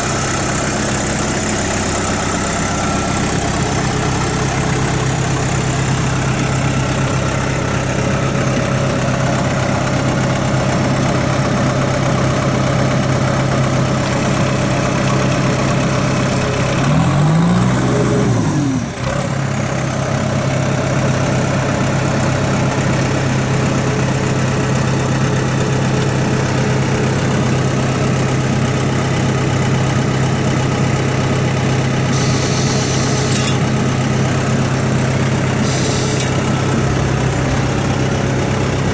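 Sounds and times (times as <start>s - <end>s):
tractor diesel engine idling: 0.0s - 38.9s
tractor engine revving: 0.0s - 38.9s.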